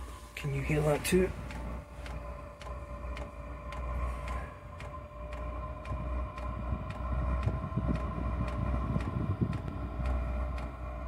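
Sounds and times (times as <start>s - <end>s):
burner low rumble: 0.0s - 11.0s
fuel pump clicking: 0.0s - 11.0s
heater fan whine: 0.0s - 11.0s.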